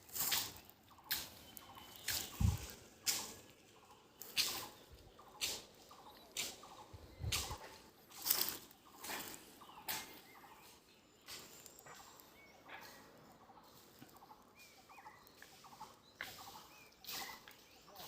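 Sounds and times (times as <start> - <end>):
high bird chirps: 0.2 - 18.0.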